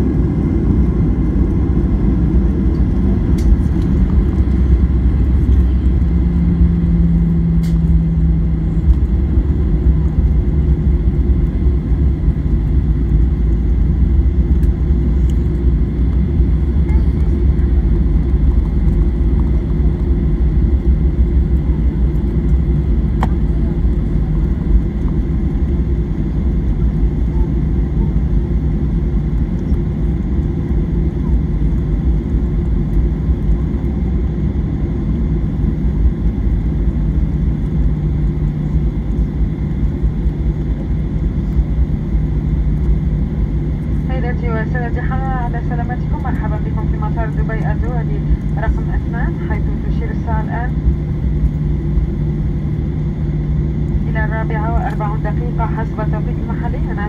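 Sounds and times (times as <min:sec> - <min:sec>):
airliner cabin rumble: 0:00.0 - 0:57.0
steady hum: 0:00.0 - 0:57.0.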